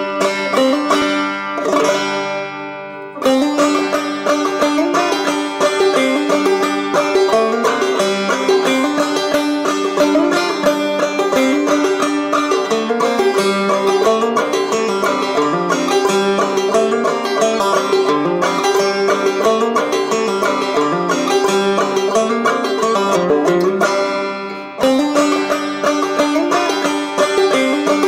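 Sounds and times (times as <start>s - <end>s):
picked banjo tune: 0.0s - 28.0s.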